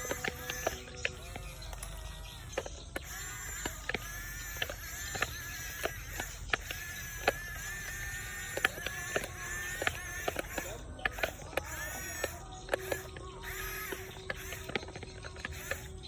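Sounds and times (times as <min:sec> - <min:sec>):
sharp clicks and knocks: 0:00.0 - 0:16.0
small electric motors whining: 0:00.0 - 0:16.0.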